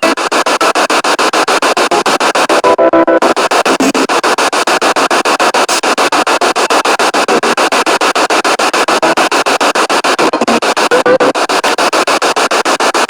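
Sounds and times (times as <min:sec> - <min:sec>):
pulsing radio static: 0:00.0 - 0:13.0.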